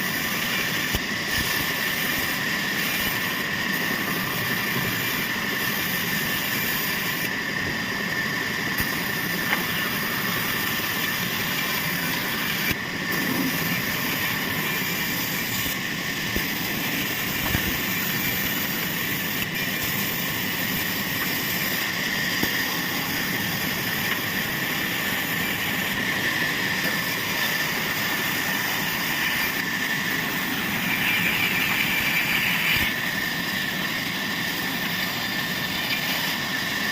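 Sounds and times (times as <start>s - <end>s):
sawmill saw machinery whining: 0.0s - 36.9s.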